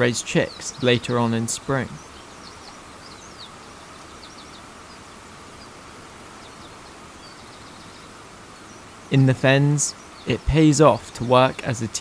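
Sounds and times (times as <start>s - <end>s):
small birds chirping: 0.0s - 12.0s
steady outdoor hiss: 0.0s - 12.0s.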